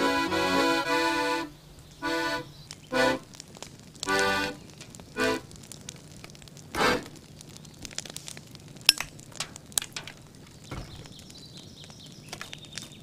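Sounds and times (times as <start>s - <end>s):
fire crackling: 0.0s - 13.0s
sharp pops and snaps: 1.6s - 13.0s.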